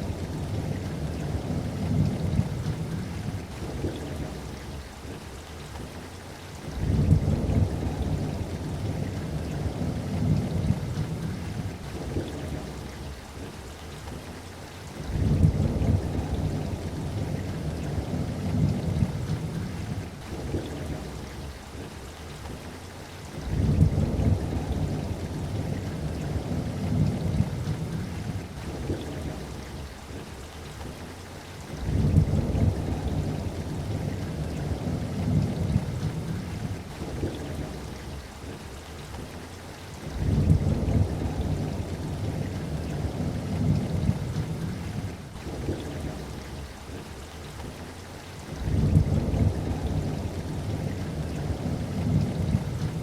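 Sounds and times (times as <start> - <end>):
low rolling thunder: 0.0 - 5.2, 6.7 - 13.9, 15.0 - 21.9, 23.3 - 30.8, 31.6 - 39.3, 40.0 - 47.8, 48.5 - 53.0
steady rain: 0.0 - 53.0.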